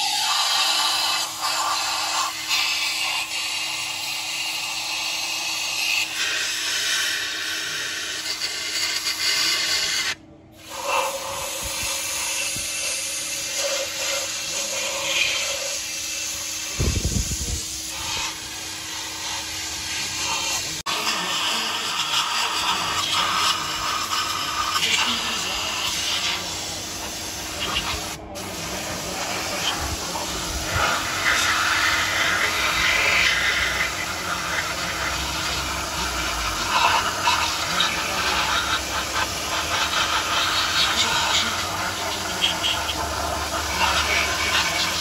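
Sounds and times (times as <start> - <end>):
compressed-air spray gun hissing: 0.0 - 45.0.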